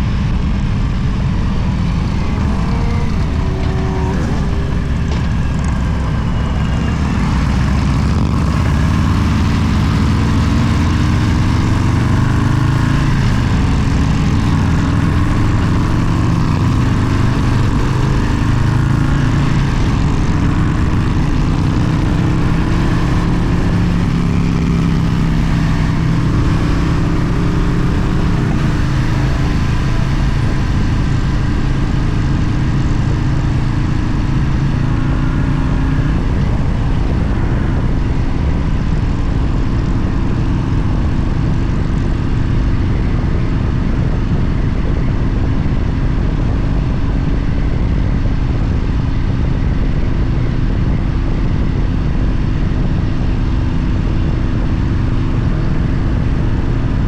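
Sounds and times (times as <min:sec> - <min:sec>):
motorcycle engine drone: 0:00.0 - 0:57.0.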